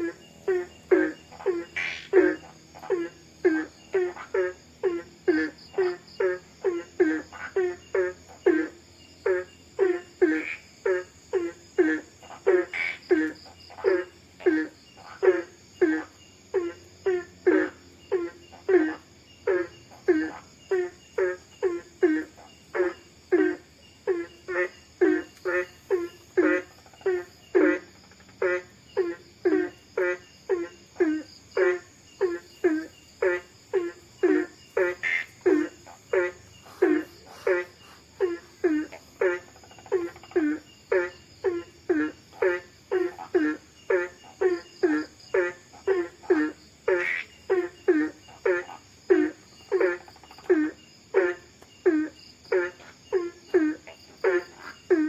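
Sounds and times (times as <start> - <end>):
frog calling: 0.0 - 55.0
insects chirring: 0.0 - 55.0.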